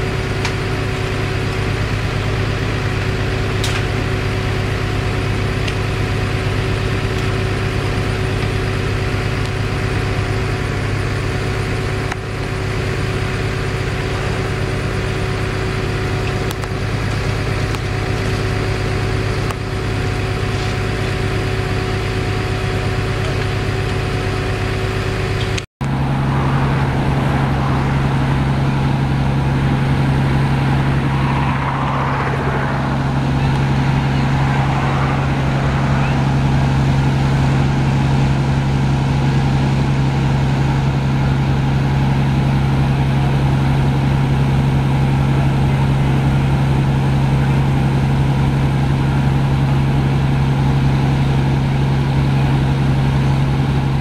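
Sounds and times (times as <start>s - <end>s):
fire truck engine droning: 0.0s - 54.0s.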